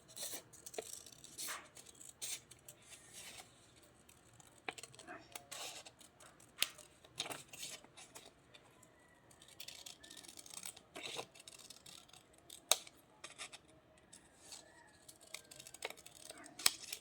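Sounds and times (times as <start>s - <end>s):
scissors snipping paper: 0.0s - 8.4s, 9.3s - 17.0s
faint paper rustling: 0.0s - 17.0s.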